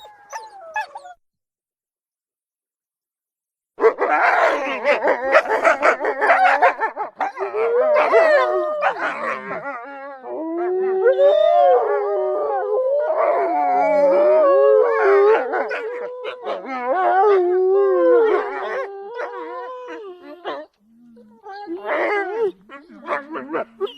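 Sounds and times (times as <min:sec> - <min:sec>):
wolves yipping and barking: 0:00.0 - 0:01.2, 0:03.8 - 0:23.9
wolves howling in chorus: 0:03.8 - 0:23.9.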